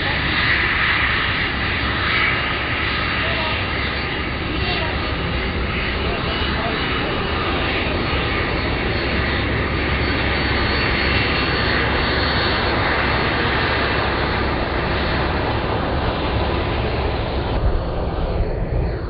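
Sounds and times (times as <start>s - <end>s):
turboprop aircraft drone: 0.0s - 19.0s.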